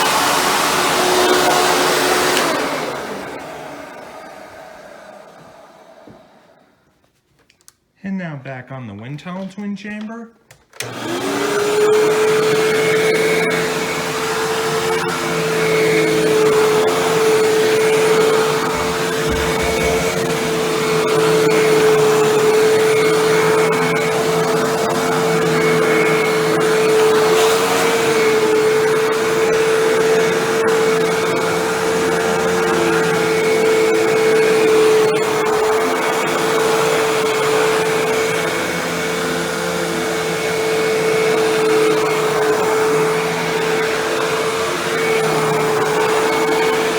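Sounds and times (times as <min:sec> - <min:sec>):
vacuum cleaner motor whine: 0:00.0 - 0:06.9, 0:10.8 - 0:46.9.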